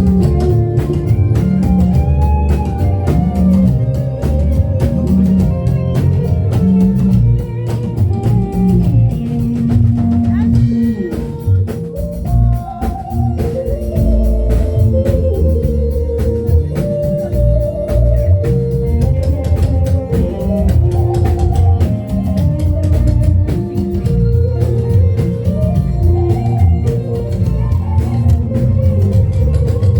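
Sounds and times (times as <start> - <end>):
drums steady beat: 0.0 - 29.9
heavy bass line: 0.0 - 29.9
organ keyboard melody: 0.0 - 29.9.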